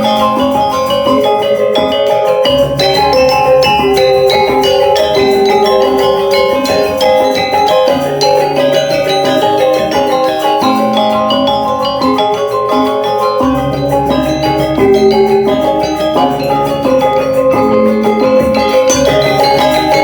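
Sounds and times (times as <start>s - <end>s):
metallophones struck in patterns: 0.0s - 20.0s.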